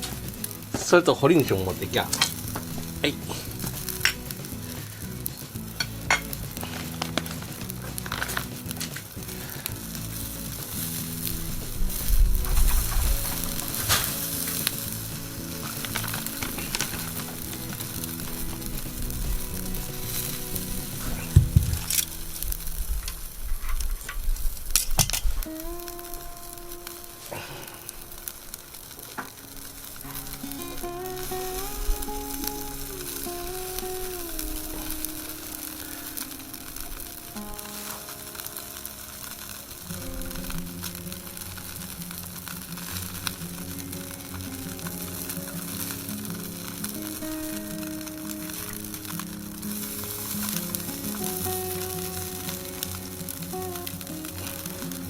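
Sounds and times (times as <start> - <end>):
sharp crackles: 0.0 - 55.0
skewers sizzling over charcoal: 0.0 - 55.0.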